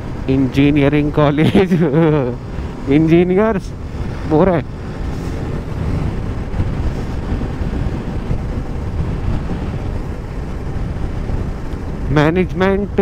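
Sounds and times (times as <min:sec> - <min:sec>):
motorcycle engine: 0:00.0 - 0:13.0
wind buffeting microphone: 0:00.0 - 0:13.0.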